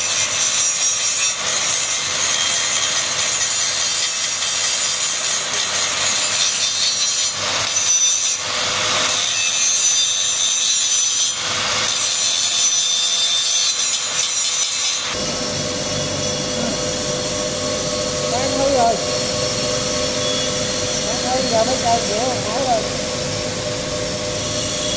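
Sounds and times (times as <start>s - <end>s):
angle grinder grinding steel pipe: 0.0s - 24.9s.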